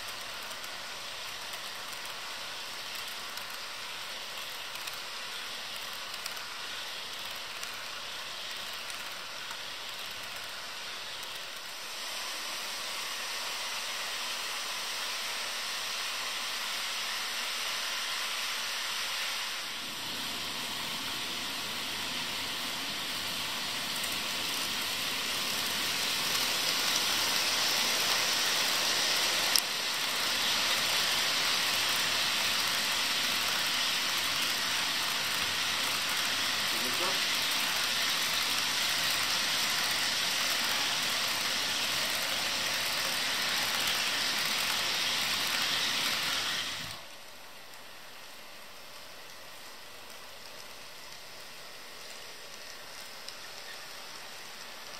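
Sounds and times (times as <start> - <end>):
model train wheels rumbling: 0.0 - 54.9.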